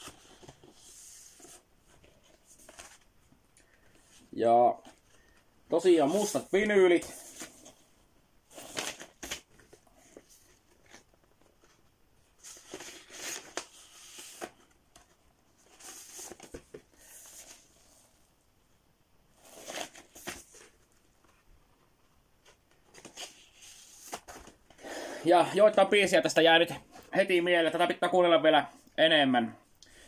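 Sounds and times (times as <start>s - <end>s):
papery rustling of record sleeves: 0.0s - 7.9s, 8.5s - 18.2s, 19.3s - 28.0s.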